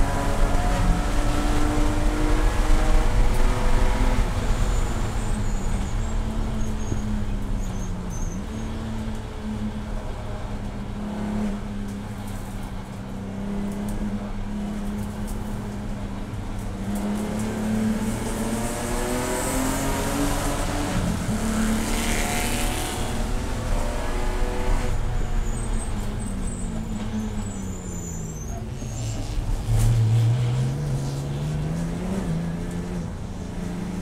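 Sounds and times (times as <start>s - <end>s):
race car engine: 0.0s - 34.0s.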